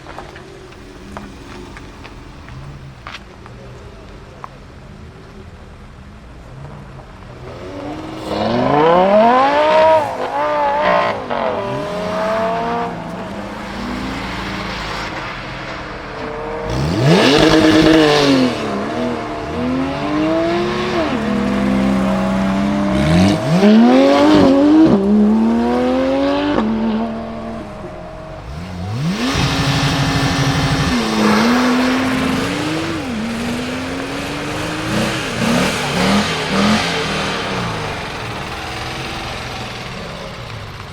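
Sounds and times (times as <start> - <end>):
car engines revving and accelerating: 0.0 - 40.9
low rumbling engine note: 7.4 - 40.9.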